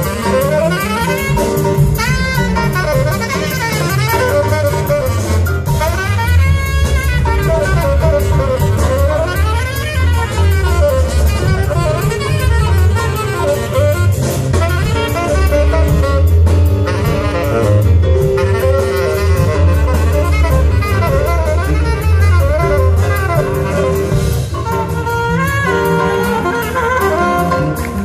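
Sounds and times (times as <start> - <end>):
bass: 0.0 - 28.0
drum kit with cymbal strokes: 0.0 - 28.0
saxophone solo: 0.0 - 28.0.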